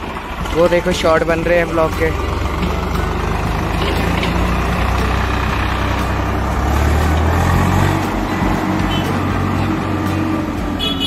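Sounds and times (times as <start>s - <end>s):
diesel tractor engine passing: 0.0s - 11.0s.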